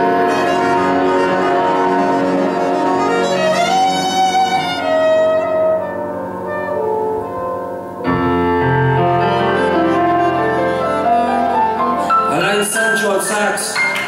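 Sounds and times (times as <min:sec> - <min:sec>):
keyboard chords: 0:00.0 - 0:14.0
live band playing ballad: 0:00.0 - 0:14.0.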